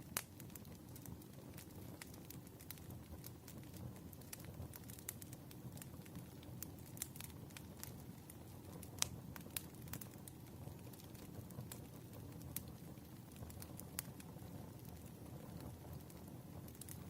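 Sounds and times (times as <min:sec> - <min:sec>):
fire popping: 0:00.0 - 0:17.0
low rumble of flame: 0:00.0 - 0:17.0
wood fire crackling: 0:00.0 - 0:17.0.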